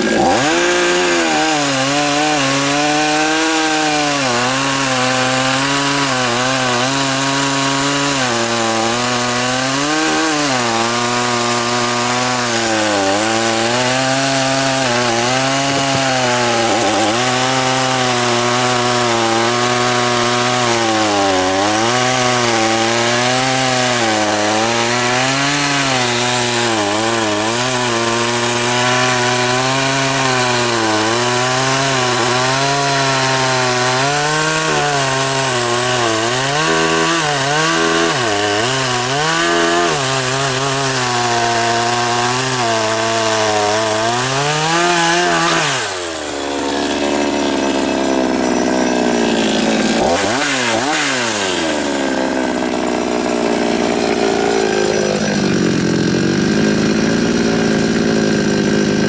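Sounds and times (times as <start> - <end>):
chainsaw cutting logs: 0.0 - 59.0
chainsaw idling: 0.0 - 59.0.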